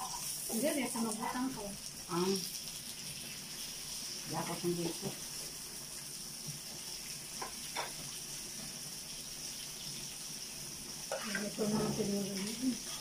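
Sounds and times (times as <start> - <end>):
food sizzling on a grill pan: 0.0 - 13.0.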